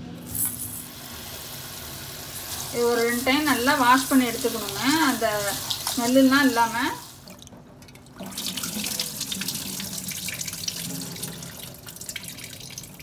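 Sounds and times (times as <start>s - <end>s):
rice rinsed by hand: 0.2s - 13.0s
water poured into sink: 0.3s - 13.0s.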